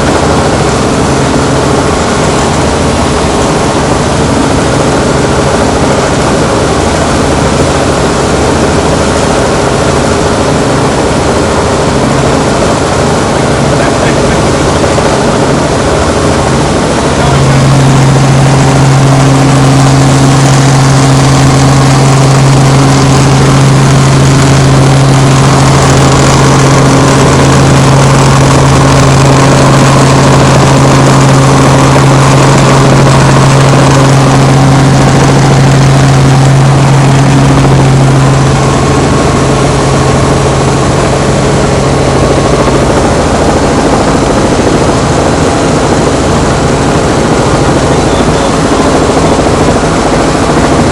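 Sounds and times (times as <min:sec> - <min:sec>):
helicopter drone in flight: 0:00.0 - 0:50.9.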